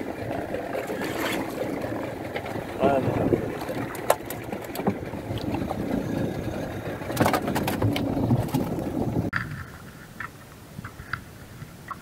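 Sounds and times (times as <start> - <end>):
boat rumble: 0.0 - 12.0
water: 0.0 - 12.0.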